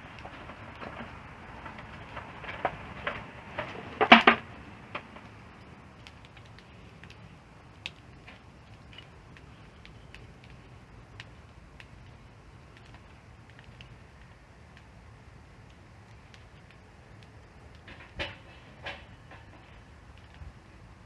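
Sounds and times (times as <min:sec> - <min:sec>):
campfire crackling and popping: 0:00.0 - 0:21.0
low hiss of burning wood: 0:00.0 - 0:21.0.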